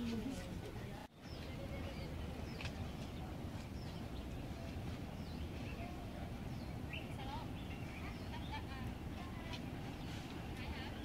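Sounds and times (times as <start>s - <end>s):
birds chirping: 0.0s - 11.0s
low outdoor rumble: 0.0s - 11.0s.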